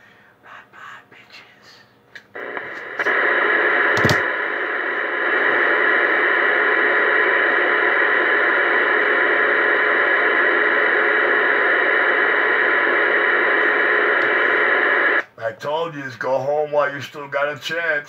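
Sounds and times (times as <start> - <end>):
radio static hiss: 2.3 - 18.0.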